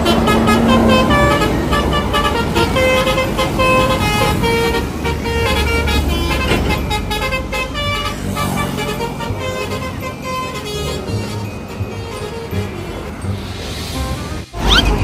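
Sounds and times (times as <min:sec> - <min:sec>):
bus engine rumble: 0:00.0 - 0:15.0
multi-tone air horn tune: 0:00.0 - 0:15.0.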